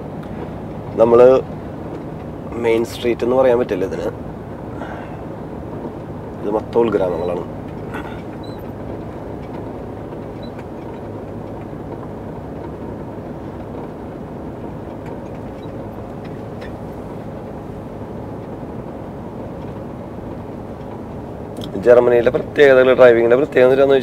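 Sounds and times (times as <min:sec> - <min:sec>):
road and tyre rumble: 0:00.0 - 0:24.0
truck diesel engine running: 0:00.0 - 0:24.0.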